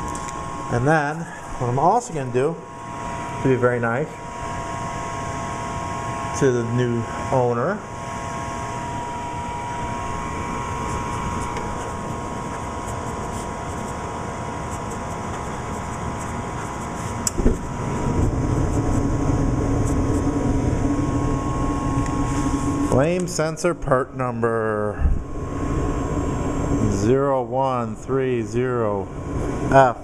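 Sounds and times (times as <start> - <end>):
faint whine: 0.0 - 30.0
furnace blower hum: 0.0 - 30.0.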